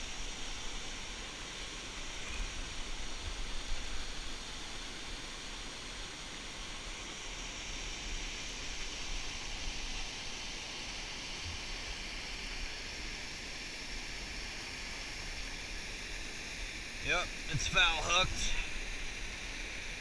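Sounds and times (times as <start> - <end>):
water rushing over a spillway: 0.0 - 20.0.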